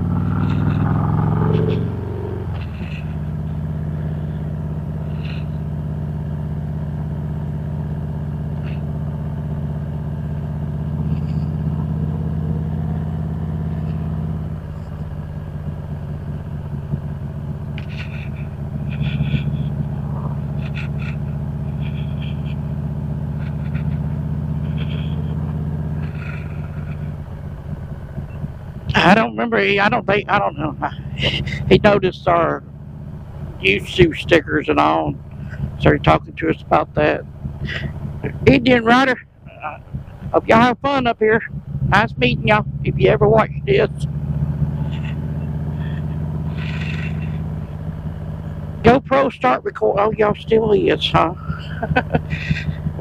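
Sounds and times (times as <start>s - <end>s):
motorcycle engine idling: 0.0s - 53.0s.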